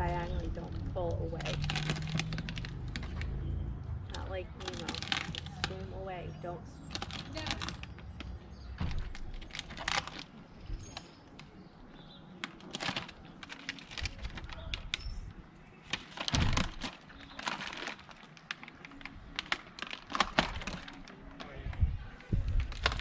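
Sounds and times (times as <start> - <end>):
tape peeling and crackling: 1.2 - 3.5, 6.8 - 23.0.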